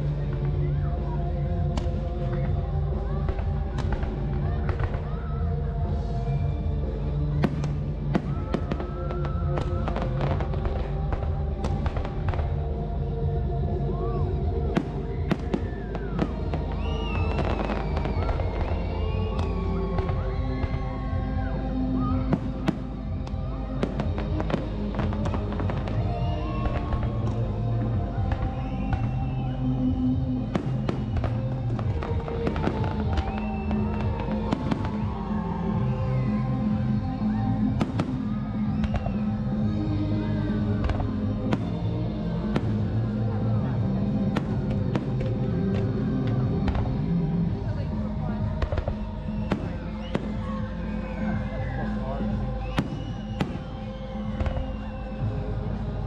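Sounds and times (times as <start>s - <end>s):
background music: 0.0s - 56.0s.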